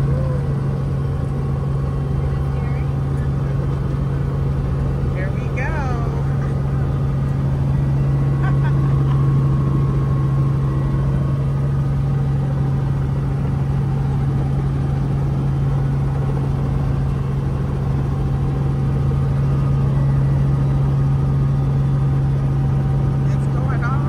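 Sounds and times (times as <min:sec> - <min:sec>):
helicopter engine and rotors: 0:00.0 - 0:24.0.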